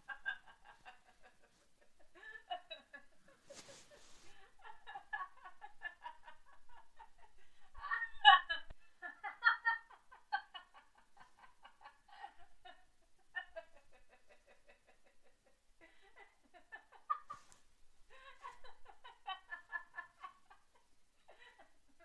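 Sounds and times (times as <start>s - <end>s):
women giggling: 0.0s - 22.0s.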